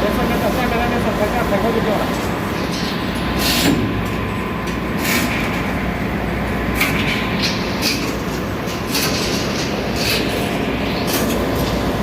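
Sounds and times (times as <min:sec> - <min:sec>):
engine room machinery rumble: 0:00.0 - 0:12.0.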